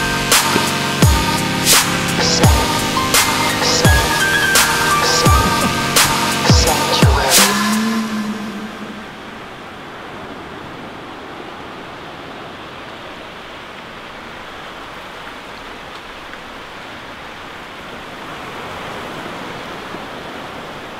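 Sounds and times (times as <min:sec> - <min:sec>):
ocean surf washing on sand: 0:00.3 - 0:20.9.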